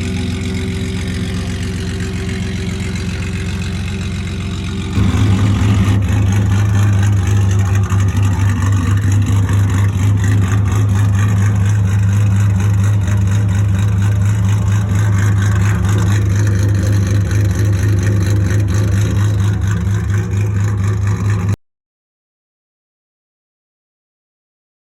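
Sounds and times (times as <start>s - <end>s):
car engine with pulsing beat: 0.0s - 21.6s.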